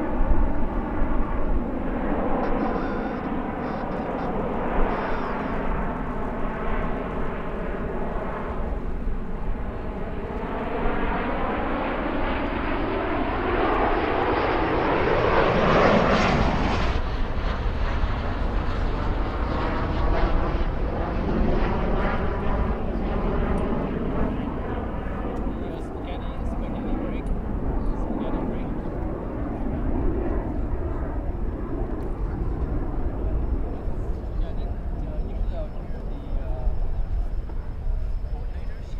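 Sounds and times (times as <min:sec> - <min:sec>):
jets flying past: 0:00.0 - 0:38.9.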